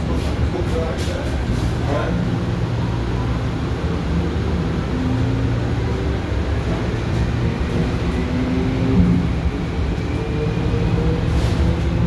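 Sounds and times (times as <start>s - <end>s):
monorail train rumbling: 0.0s - 12.0s.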